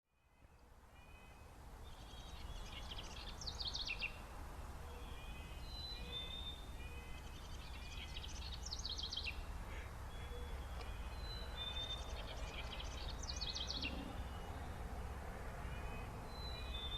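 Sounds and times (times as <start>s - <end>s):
songbird singing: 0.1s - 16.9s.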